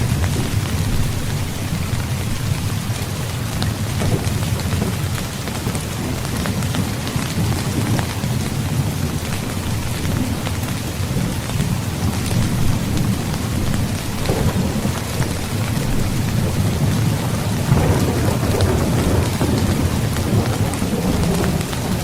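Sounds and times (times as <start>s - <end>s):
heavy rain falling: 0.0s - 22.0s
sharp raindrop ticks: 0.0s - 22.0s
thunder rumbling: 0.0s - 22.0s.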